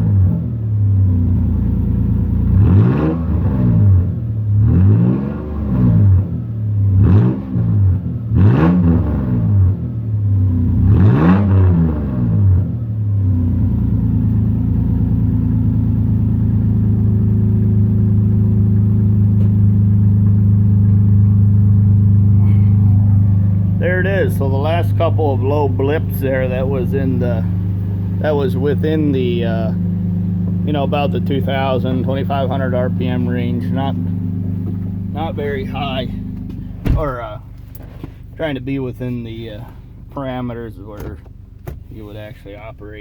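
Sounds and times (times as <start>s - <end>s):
car engine idling: 0.0s - 43.0s
car engine revving: 0.0s - 43.0s.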